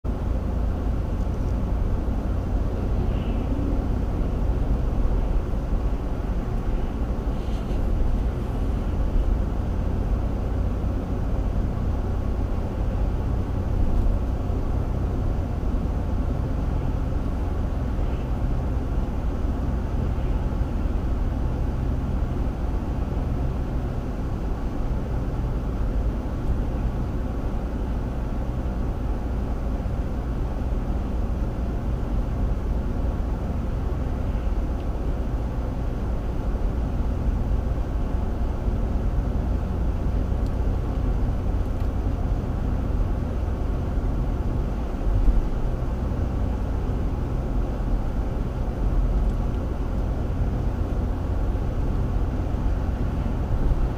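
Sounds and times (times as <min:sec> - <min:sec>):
vehicle driving rumble: 0:00.0 - 0:53.9.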